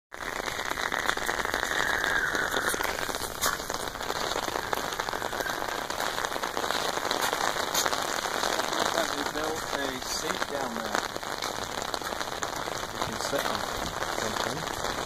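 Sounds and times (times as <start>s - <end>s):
steady rain falling: 0.1s - 15.0s.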